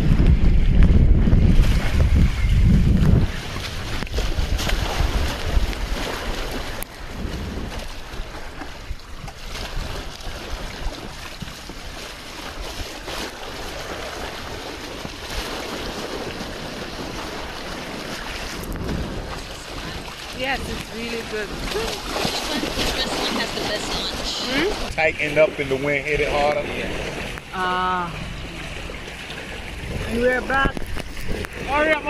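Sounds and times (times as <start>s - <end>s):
water splashing along boat bow: 0.0s - 32.0s
wind buffeting microphone: 0.0s - 32.0s.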